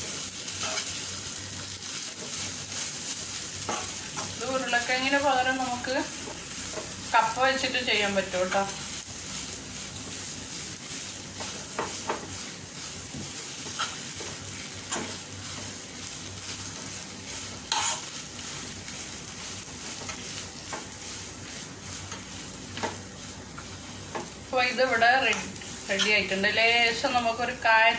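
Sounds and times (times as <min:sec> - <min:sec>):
food sizzling in a pan: 0:00.0 - 0:27.9.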